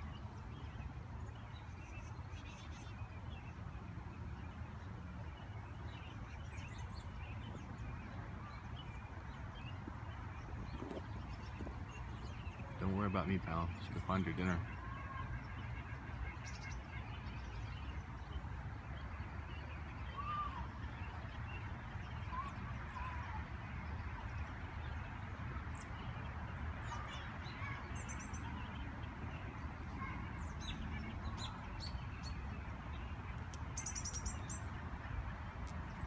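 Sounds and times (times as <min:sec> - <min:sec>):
small birds chirping: 0:04.2 - 0:19.1, 0:19.9 - 0:36.0.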